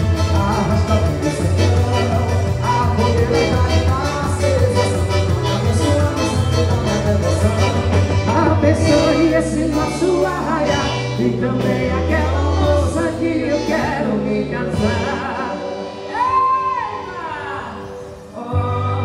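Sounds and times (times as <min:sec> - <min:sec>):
bass line: 0:00.0 - 0:17.2, 0:18.4 - 0:19.0
person singing: 0:00.0 - 0:19.0.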